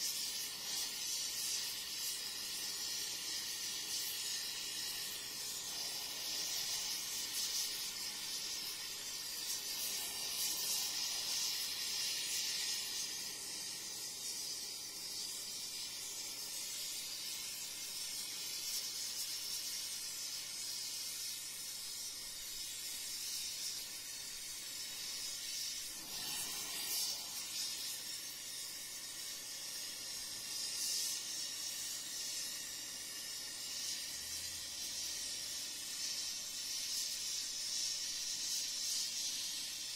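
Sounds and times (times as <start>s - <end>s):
arc torch hissing: 0.0s - 39.9s.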